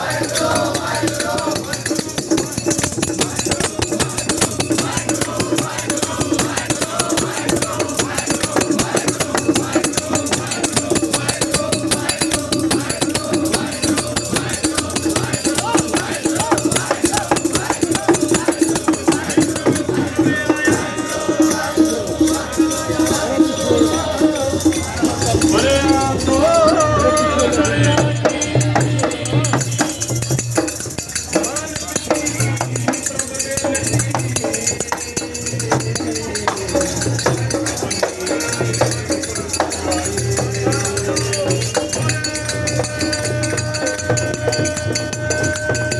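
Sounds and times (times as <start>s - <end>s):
jingling hand percussion: 0.0s - 45.9s
voices singing a hymn: 0.0s - 45.9s.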